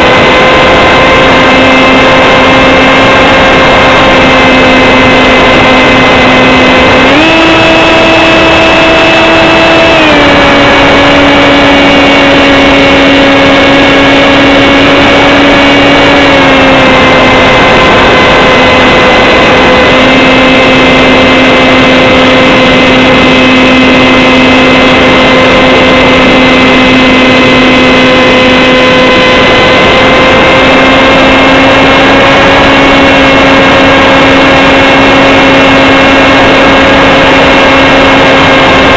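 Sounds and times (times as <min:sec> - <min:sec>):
electric motor and propeller whining: 0:00.0 - 0:38.9.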